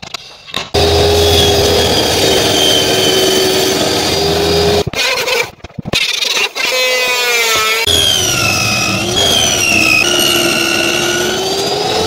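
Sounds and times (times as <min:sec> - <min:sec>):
woodworking machine whining: 0:00.8 - 0:05.3, 0:06.6 - 0:12.0.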